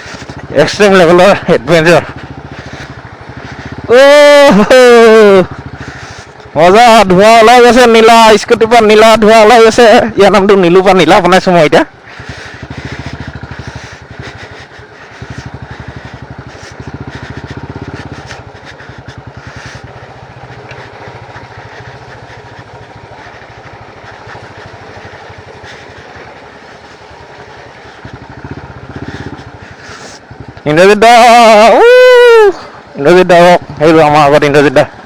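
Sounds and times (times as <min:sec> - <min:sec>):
small motorbike engine running: 0:00.0 - 0:35.0.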